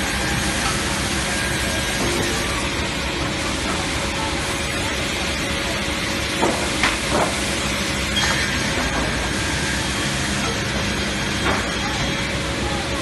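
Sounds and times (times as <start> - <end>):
saw running: 0.0 - 13.0.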